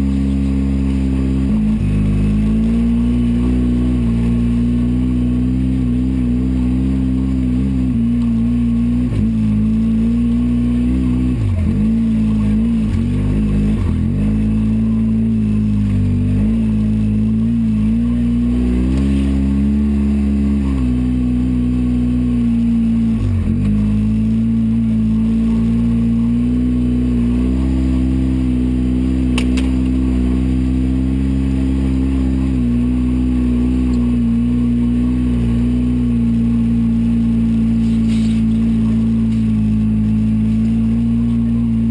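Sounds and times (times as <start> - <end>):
engine running under throttle: 0.0 - 41.9.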